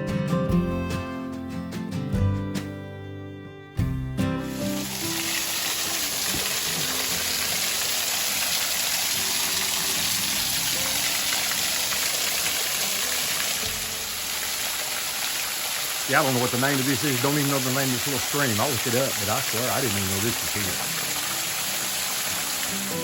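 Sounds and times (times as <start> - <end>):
waterfall pouring and splashing: 4.5 - 23.0.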